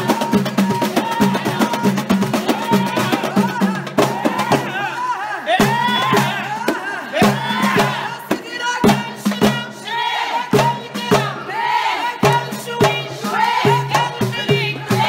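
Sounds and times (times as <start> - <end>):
frame drums beating: 0.0 - 15.0
women's chorus singing a chant: 0.0 - 15.0.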